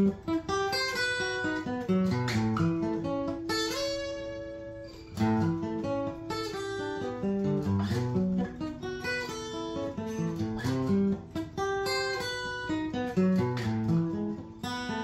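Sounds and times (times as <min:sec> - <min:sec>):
acoustic guitar arpeggios: 0:00.0 - 0:15.0.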